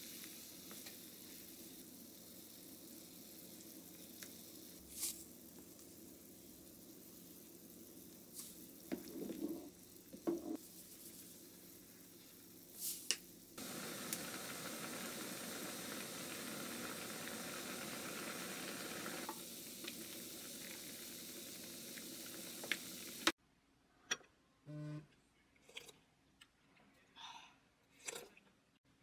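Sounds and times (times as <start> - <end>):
food sizzling in a pan: 0.0 - 23.4.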